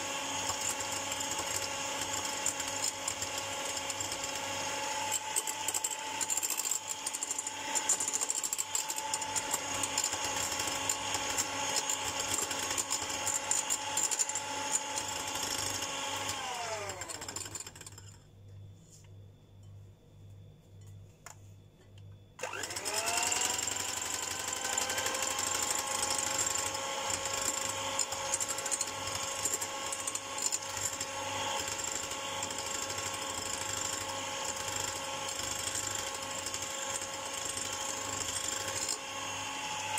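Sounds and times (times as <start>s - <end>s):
electric hand mixer motor: 0.0s - 17.7s, 22.4s - 39.9s.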